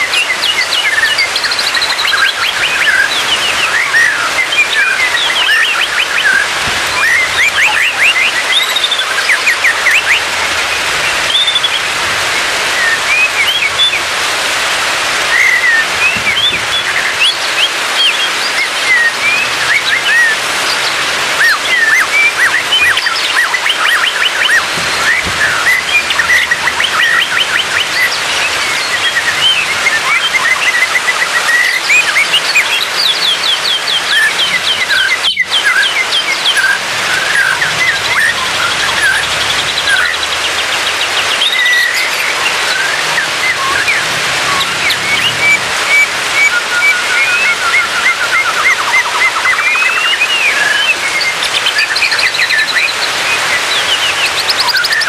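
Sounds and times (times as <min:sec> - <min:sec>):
bird singing: 0:00.0 - 0:14.2, 0:15.2 - 0:55.0.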